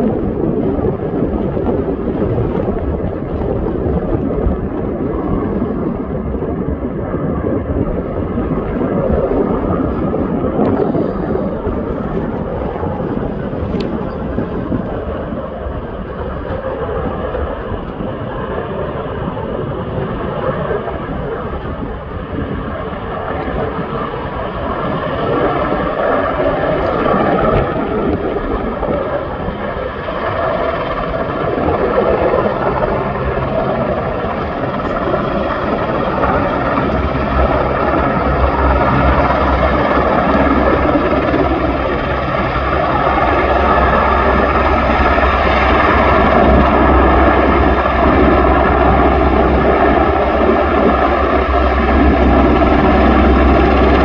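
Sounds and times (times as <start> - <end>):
deep low rumble: 0.0 - 54.0
helicopter rotor and turbine: 0.0 - 54.0
high whine: 0.0 - 54.0.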